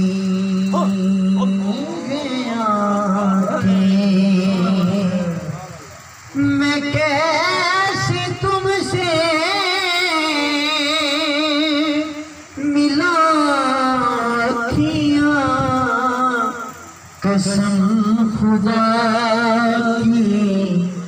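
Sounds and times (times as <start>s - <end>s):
man singing with vibrato: 0.0s - 21.0s.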